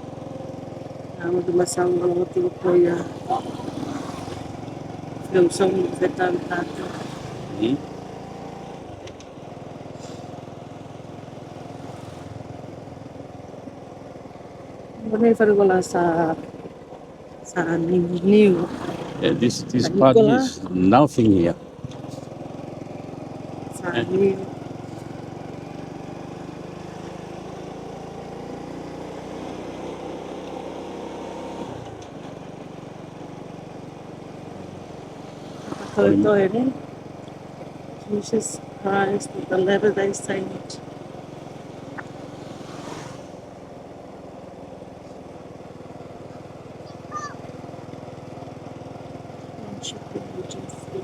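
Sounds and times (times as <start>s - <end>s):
road and air noise: 0.0s - 51.0s
small motorbike engine cruising: 0.0s - 51.0s.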